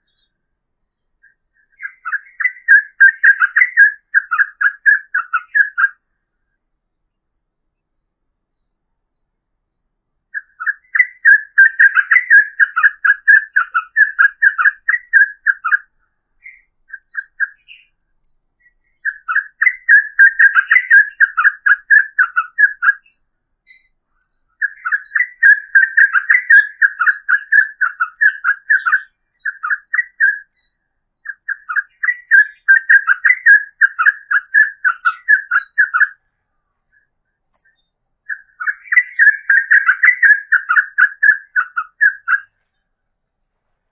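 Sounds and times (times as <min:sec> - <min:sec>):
bird chattering song: 0:00.0 - 0:43.1.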